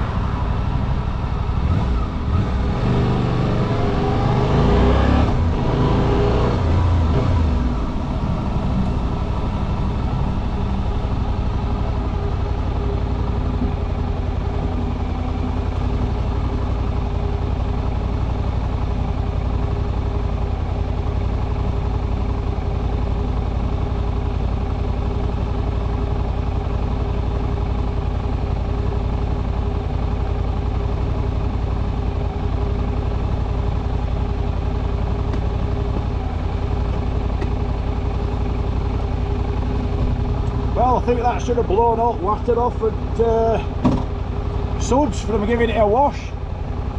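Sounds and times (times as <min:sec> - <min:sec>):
motorcycle engine idling: 0:06.6 - 0:46.9.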